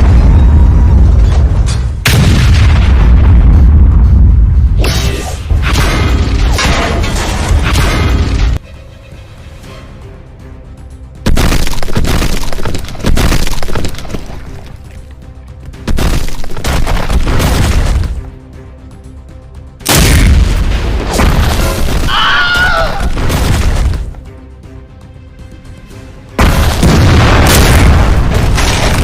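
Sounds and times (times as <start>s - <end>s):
background music: 0.0s - 29.0s.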